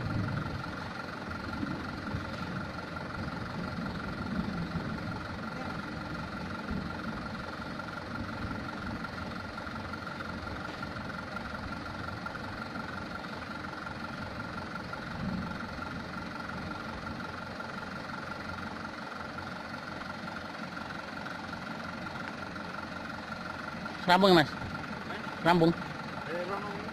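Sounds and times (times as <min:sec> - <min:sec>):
diesel truck engine running: 0:00.0 - 0:26.9
high engine whine: 0:00.0 - 0:26.9.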